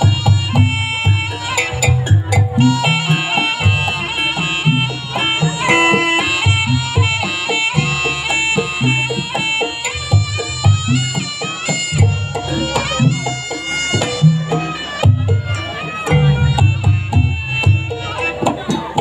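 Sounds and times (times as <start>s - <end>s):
hand drum strokes: 0.0s - 19.0s
shrill reed pipe melody: 0.0s - 19.0s.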